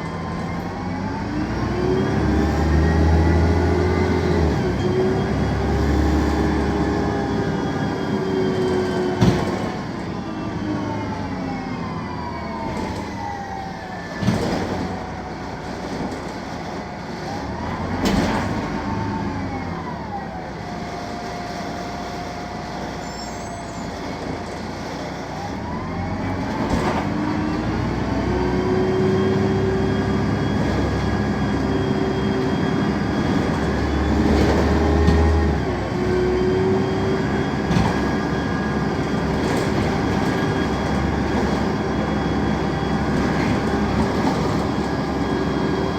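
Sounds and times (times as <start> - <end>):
bus engine whine: 0.0 - 45.9.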